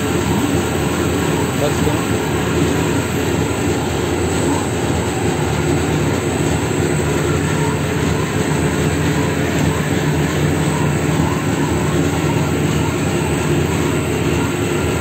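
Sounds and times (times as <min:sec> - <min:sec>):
roll mill mechanical drone: 0:00.0 - 0:15.0.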